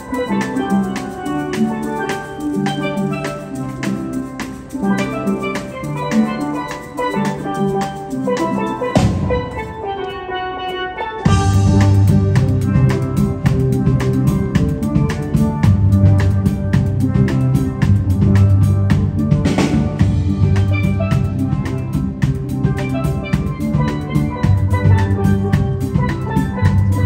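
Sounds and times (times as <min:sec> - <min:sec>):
drum kit beat: 0:00.0 - 0:10.3, 0:11.2 - 0:27.0
steel band playing: 0:00.0 - 0:27.0.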